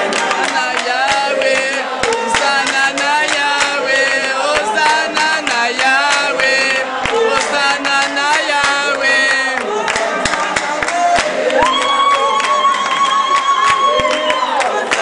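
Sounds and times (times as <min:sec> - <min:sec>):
group singing in chorus: 0:00.0 - 0:15.0
hand clapping: 0:00.0 - 0:15.0.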